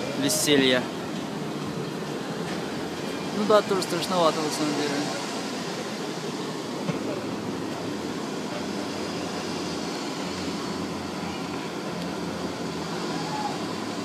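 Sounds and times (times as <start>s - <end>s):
even outdoor rush: 0.0s - 14.0s
faint distant voices: 0.0s - 14.0s.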